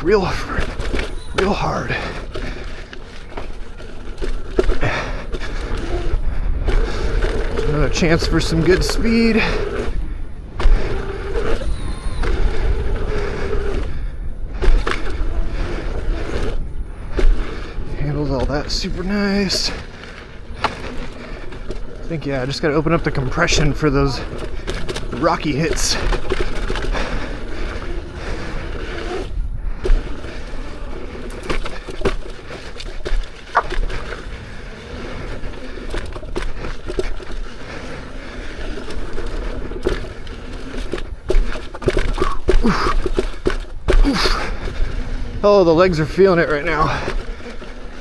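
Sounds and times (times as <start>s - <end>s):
sharp knocks from rocky hits: 0.0s - 15.4s, 16.2s - 27.2s, 29.0s - 37.5s, 39.3s - 44.9s
electric motor whine: 0.0s - 48.0s
tyre rumble: 0.0s - 48.0s
wind on microphone: 0.0s - 48.0s.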